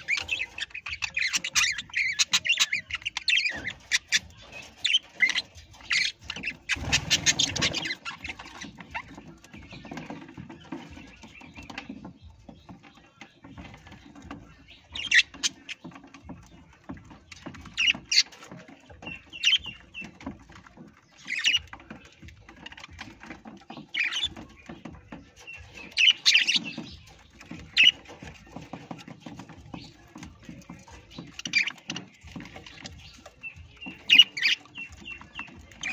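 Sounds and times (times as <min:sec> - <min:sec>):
parrot squawking and chirping: 0:00.0 - 0:11.9, 0:13.7 - 0:16.5, 0:17.3 - 0:35.9
small clicking and scratching: 0:00.0 - 0:35.9.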